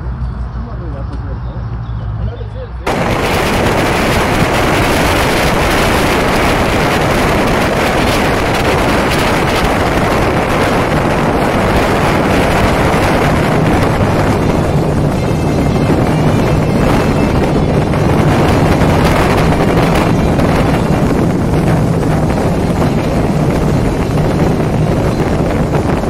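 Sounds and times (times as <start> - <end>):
engine hum: 0.0 - 26.0
road noise: 0.0 - 26.0
wind rushing over microphone: 2.8 - 26.0.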